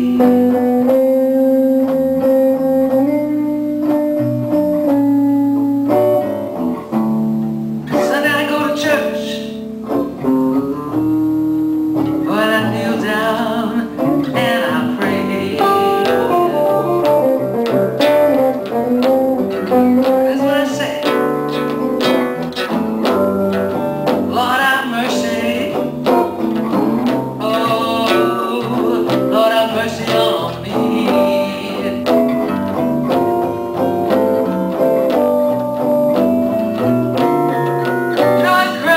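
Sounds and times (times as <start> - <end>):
blues band playing: 0.0 - 38.9
lead guitar bending notes: 0.0 - 38.9.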